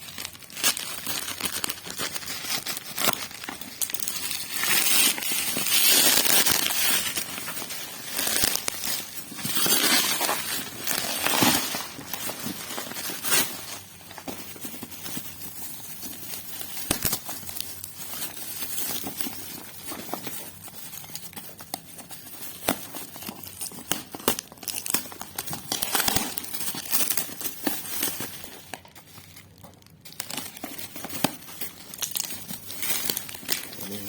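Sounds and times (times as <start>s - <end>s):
packaging crinkling and rustling: 0.0s - 34.0s.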